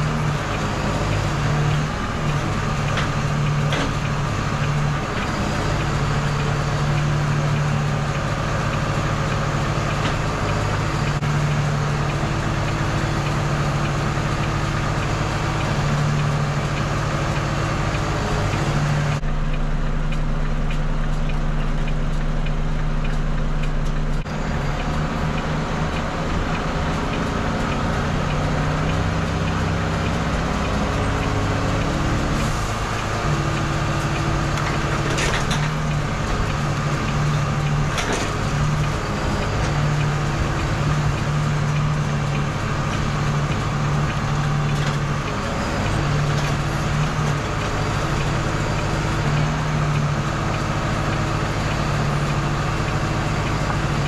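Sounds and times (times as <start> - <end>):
diesel lorry engine running: 0.0 - 54.0.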